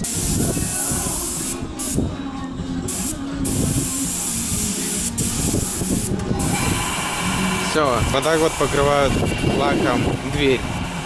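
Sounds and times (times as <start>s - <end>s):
spray gun hissing: 0.0s - 2.1s, 2.9s - 11.0s.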